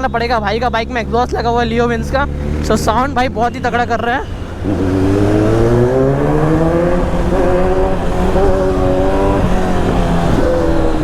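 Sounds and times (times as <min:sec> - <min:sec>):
motorcycle engine pulling: 0:00.0 - 0:11.0.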